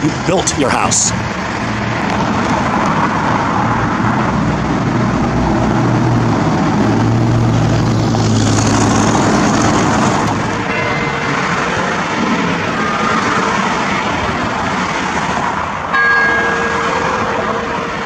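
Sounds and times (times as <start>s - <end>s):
motor vehicle traffic: 0.0s - 18.0s.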